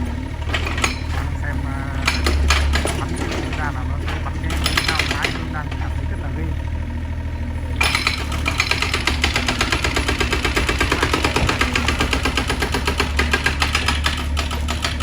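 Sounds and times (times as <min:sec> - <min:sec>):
excavator diesel engine running: 0:00.0 - 0:15.0
hydraulic breaker hammering concrete: 0:00.0 - 0:15.0.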